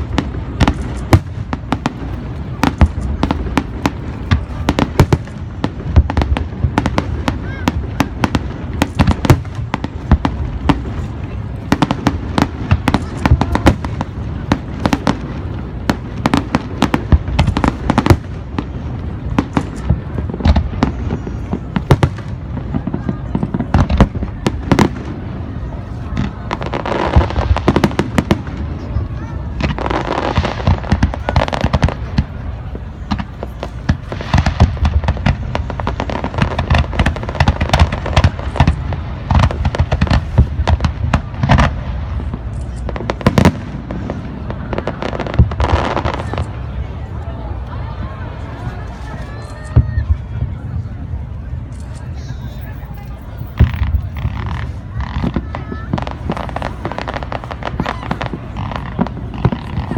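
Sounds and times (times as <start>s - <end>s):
deep continuous rumble: 0.0s - 59.9s
fireworks cracking and banging: 0.0s - 59.9s.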